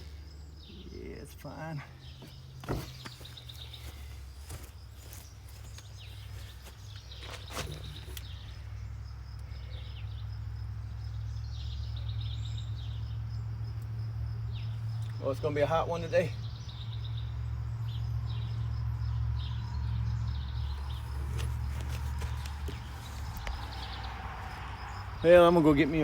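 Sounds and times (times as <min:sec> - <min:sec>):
birds chirping in trills: 0:00.0 - 0:26.0.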